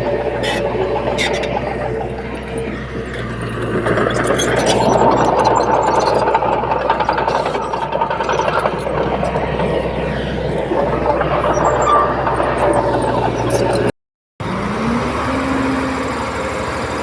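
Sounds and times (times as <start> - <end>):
metallic clattering and squeaking: 0.0 - 13.9
diesel engine hum: 0.0 - 17.0.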